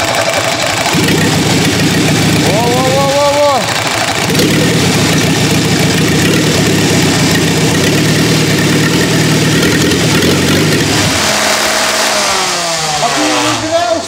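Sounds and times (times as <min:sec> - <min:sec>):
engine firing steadily: 0:00.0 - 0:14.0
engine starter turning over: 0:00.0 - 0:14.0.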